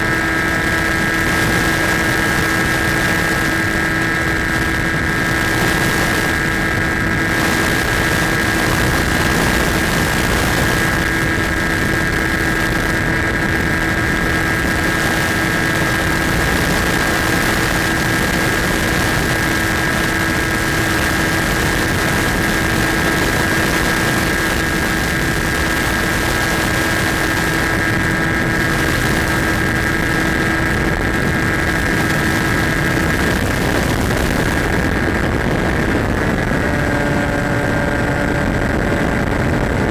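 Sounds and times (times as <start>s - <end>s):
electric motor and propeller whine: 0.0s - 39.9s
rush of air: 0.0s - 39.9s.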